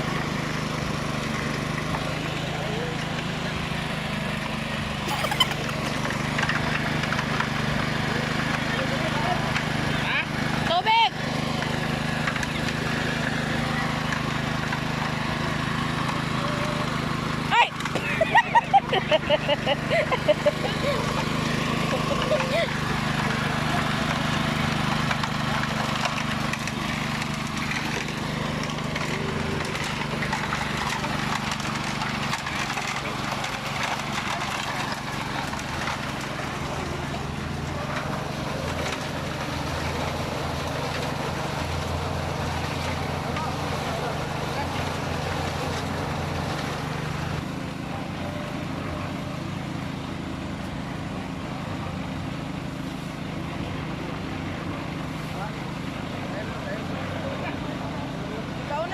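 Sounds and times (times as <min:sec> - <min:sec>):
small engine humming: 0:00.0 - 0:58.9.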